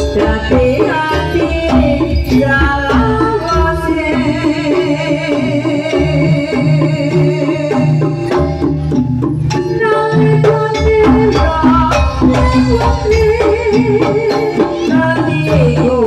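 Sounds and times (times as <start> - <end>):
drum strikes: 0.0 - 16.0
wavering melody: 0.0 - 16.0.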